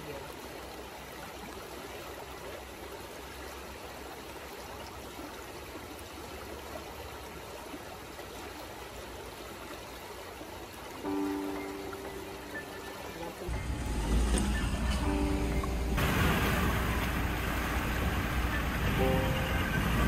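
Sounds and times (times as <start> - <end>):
river flowing over rocks: 0.0 - 20.0.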